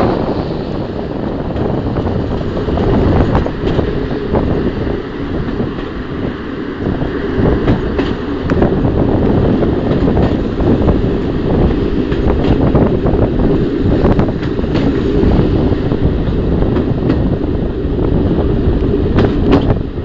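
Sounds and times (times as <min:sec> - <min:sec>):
diesel railcar running: 0:00.0 - 0:20.0
sharp rail clicks: 0:00.0 - 0:20.0.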